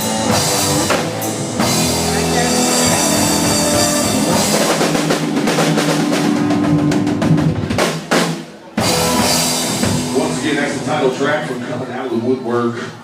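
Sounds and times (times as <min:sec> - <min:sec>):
rock band playing: 0:00.0 - 0:11.9.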